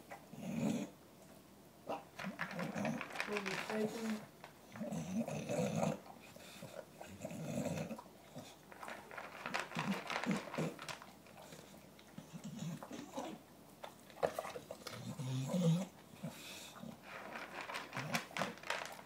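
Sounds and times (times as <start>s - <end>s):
dog crunching kibble: 1.9s - 19.0s.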